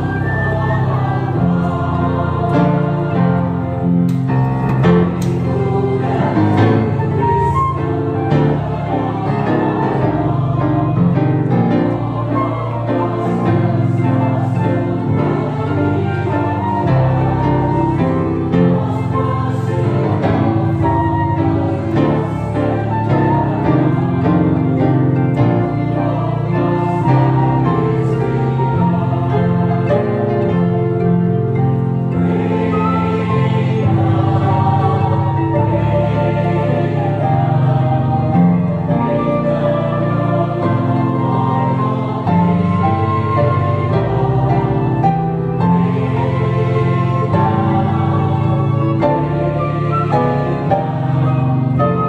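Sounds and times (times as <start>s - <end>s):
church organ: 0.0s - 52.0s
grand piano: 0.0s - 52.0s.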